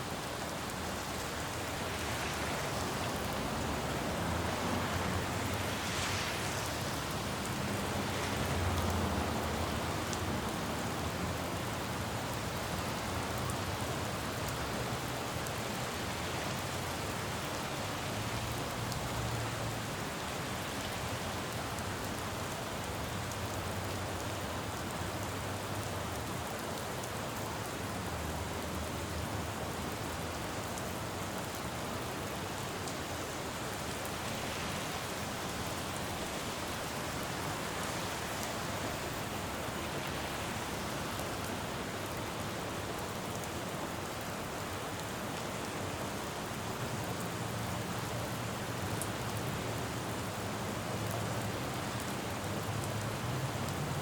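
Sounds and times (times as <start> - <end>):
rain falling on road: 0.0 - 54.0
low rumble of traffic: 0.1 - 54.0.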